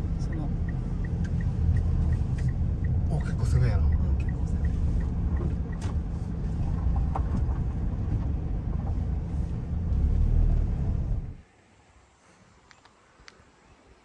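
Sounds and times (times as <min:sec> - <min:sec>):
car engine and tyre rumble: 0:00.0 - 0:11.8.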